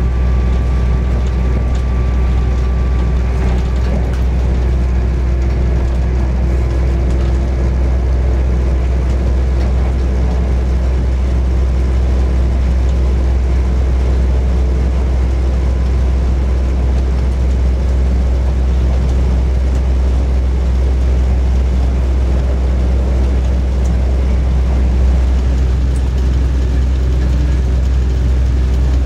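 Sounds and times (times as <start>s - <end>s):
train interior drone and rumble: 0.0s - 29.0s.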